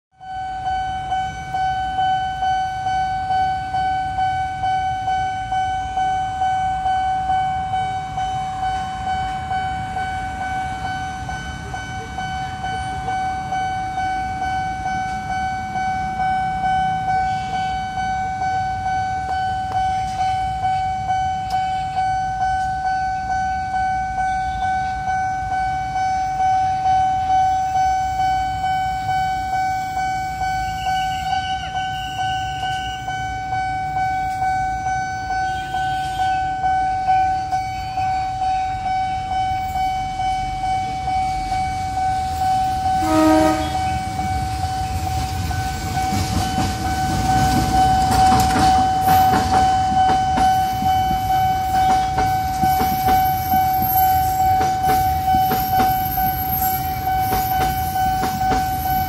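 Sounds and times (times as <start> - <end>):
level crossing alarm tone: 0.1 - 59.0
traffic rumble: 0.3 - 59.0.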